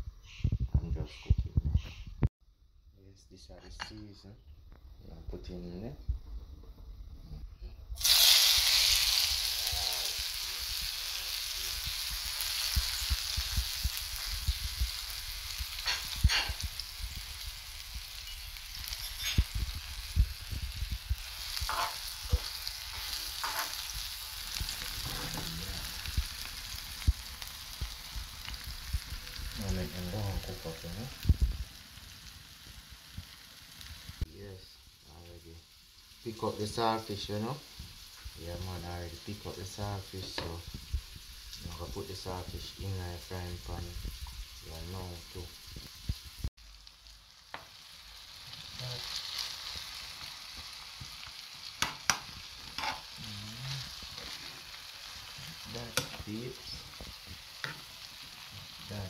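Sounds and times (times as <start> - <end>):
vegetables sizzling in oil: 8.0 - 59.0.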